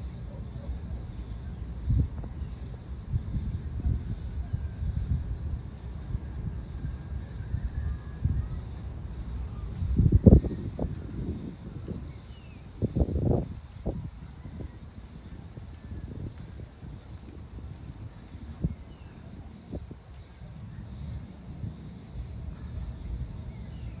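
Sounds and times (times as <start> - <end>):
high-pitched insect chorus: 0.0 - 24.0
wind buffeting microphone: 0.0 - 24.0.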